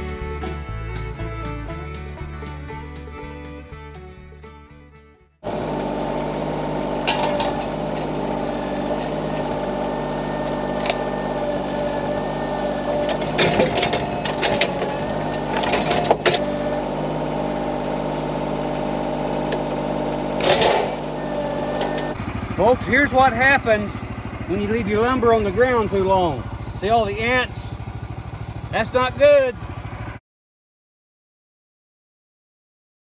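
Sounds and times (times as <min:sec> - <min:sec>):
diesel engine running: 0:00.0 - 0:30.2.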